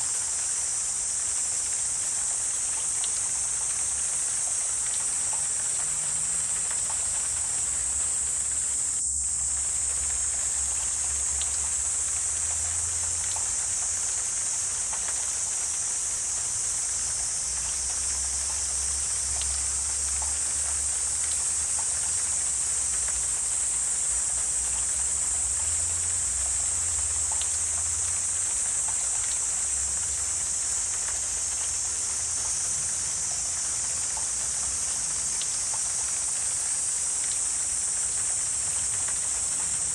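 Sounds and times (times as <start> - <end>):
insect chorus drone: 0.0 - 39.9
faint ticks: 2.2 - 8.2, 9.0 - 39.9.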